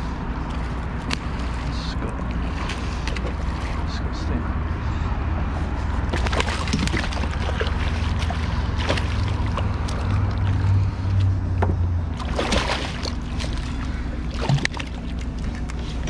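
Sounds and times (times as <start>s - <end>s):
steady low rumble: 0.0s - 16.0s
fish splashing in water: 0.4s - 4.1s, 6.0s - 11.4s, 12.1s - 16.0s.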